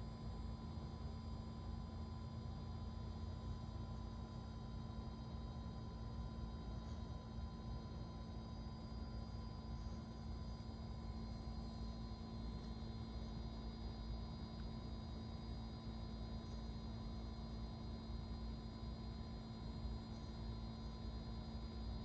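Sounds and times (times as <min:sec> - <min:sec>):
heat pump unit humming: 0:00.0 - 0:22.0.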